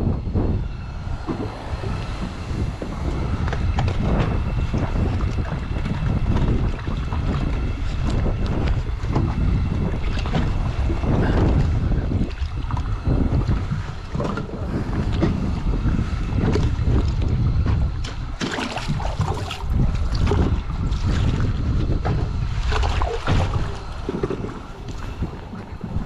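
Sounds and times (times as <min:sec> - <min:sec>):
wind rumbling on microphone: 0:00.0 - 0:26.0
water splashing: 0:00.8 - 0:26.0.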